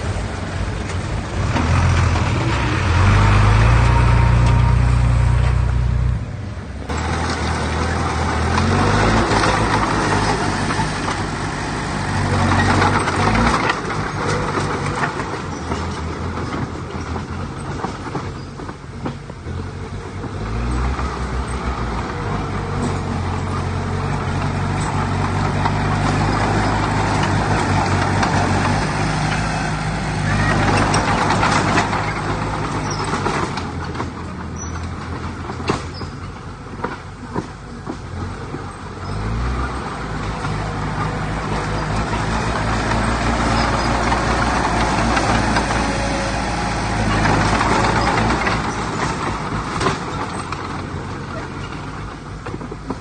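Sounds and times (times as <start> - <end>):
diesel earthmoving machinery engine: 0.0 - 53.0.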